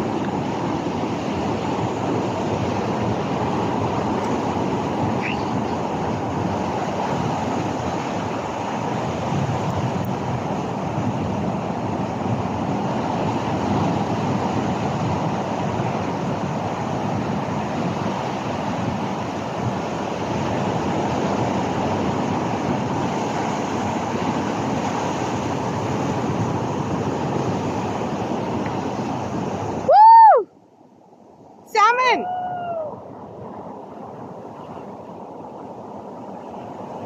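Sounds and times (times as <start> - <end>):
wind noise on microphone: 0.0 - 30.5
ocean surf: 0.0 - 37.0.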